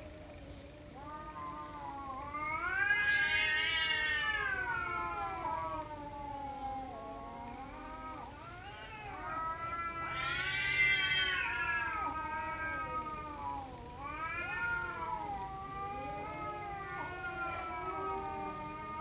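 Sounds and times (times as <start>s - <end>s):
cats yowling: 0.0s - 19.0s.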